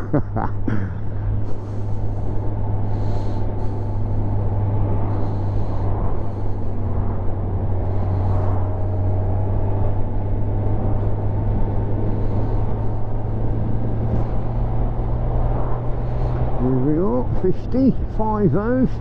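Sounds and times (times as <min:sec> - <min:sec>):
motorcycle engine cruising: 0:00.0 - 0:19.0
road noise: 0:00.0 - 0:19.0
wind noise: 0:00.0 - 0:19.0.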